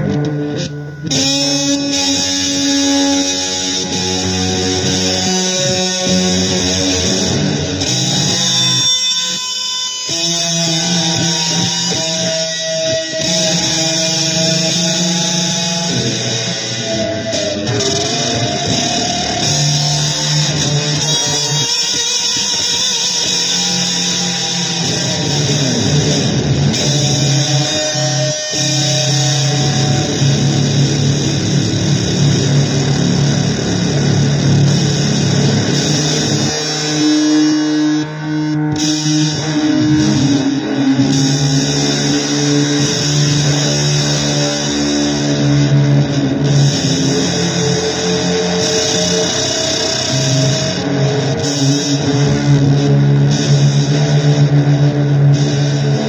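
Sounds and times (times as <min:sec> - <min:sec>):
noisy electric guitar music: 0:00.0 - 0:56.0.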